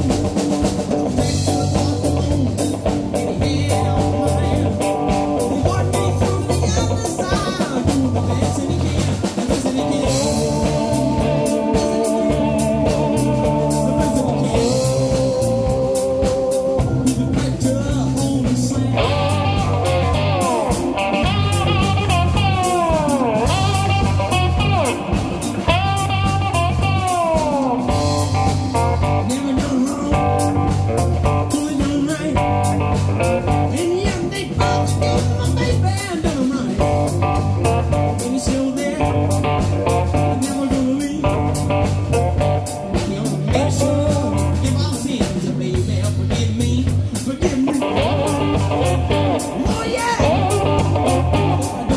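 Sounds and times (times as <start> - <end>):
slide guitar: 0.0 - 45.2, 47.6 - 51.9
drum kit: 0.0 - 51.9
electric bass: 0.0 - 51.9.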